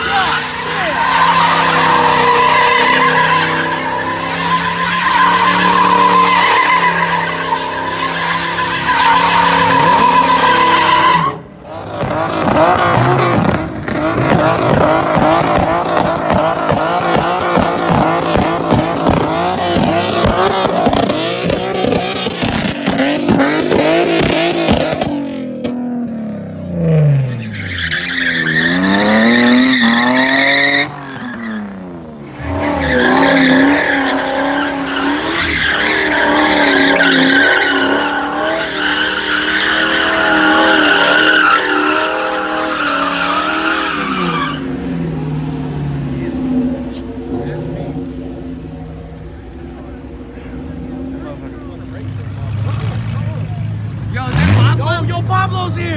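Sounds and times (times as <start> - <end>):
car engine revving hard: 0.0 - 55.9
tires squealing: 0.0 - 55.9.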